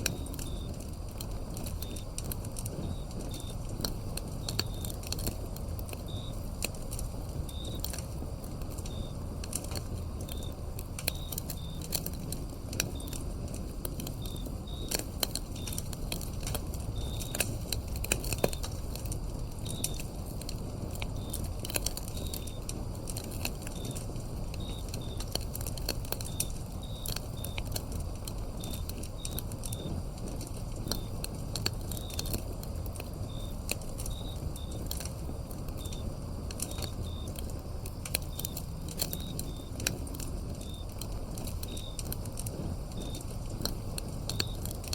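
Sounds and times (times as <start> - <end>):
crickets chirping: 0.0 - 44.9
wood fire crackling and popping: 0.0 - 44.9.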